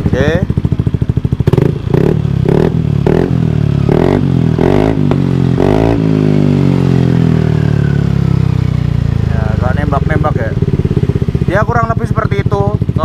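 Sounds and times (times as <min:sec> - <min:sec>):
exhaust cracks: 0:00.0 - 0:13.0
motorcycle engine revving: 0:00.0 - 0:13.0.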